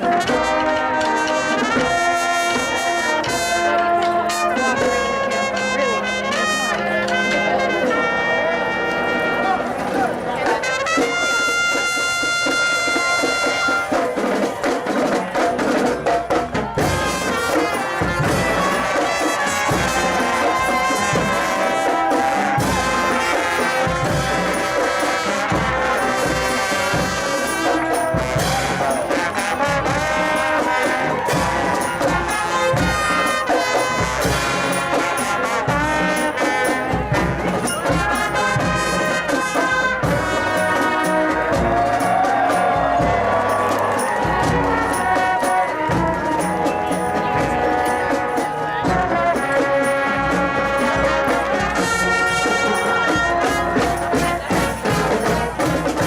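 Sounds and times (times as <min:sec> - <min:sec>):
brass marching band playing: 0:00.0 - 0:56.0.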